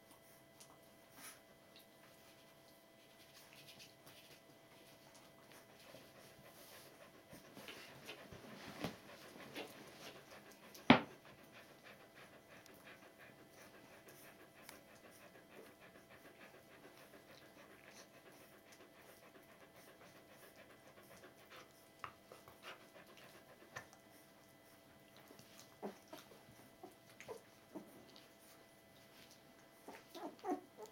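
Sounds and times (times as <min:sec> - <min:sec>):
dog panting faintly: 0:00.0 - 0:30.9.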